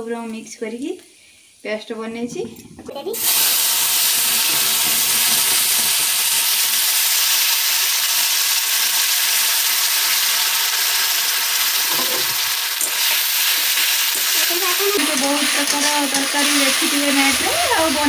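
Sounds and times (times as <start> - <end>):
paste sizzling in hot oil: 3.2 - 18.0.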